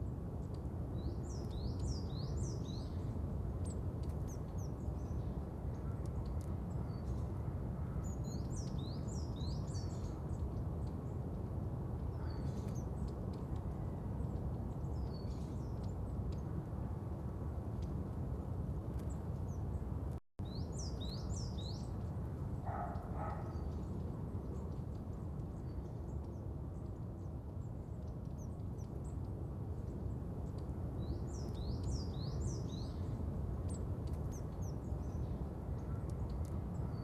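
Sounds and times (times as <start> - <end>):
small birds chirping: 0.4 - 16.7, 18.9 - 37.0.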